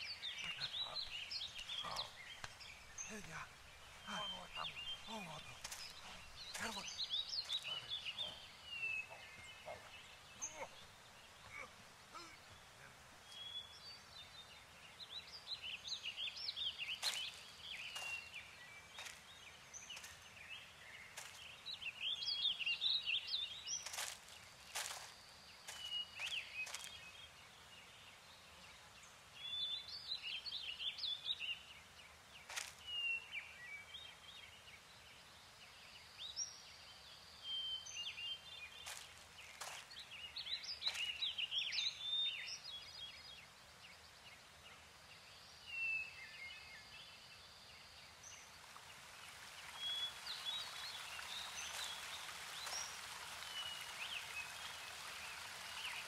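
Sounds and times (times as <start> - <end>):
faint woodland air hiss: 0.0 - 56.0
small birds chirping: 0.0 - 56.0.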